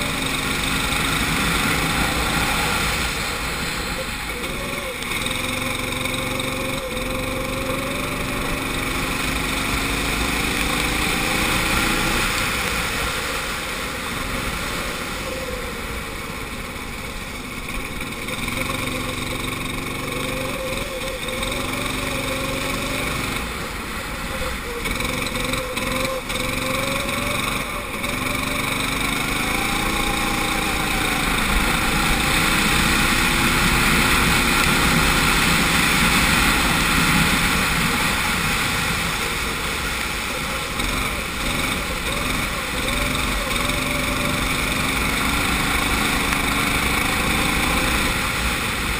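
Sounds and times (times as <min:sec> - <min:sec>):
kart engine accelerating: 0:00.0 - 0:48.9.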